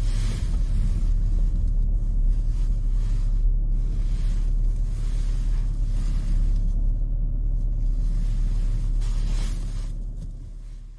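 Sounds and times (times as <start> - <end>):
road hiss: 0.0 - 6.9, 7.8 - 10.9
car engine and road rumble: 0.0 - 10.9.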